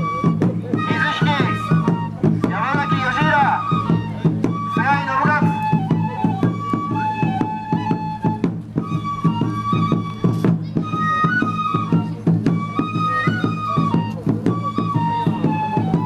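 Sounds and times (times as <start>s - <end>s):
flute playing long notes: 0.0s - 16.0s.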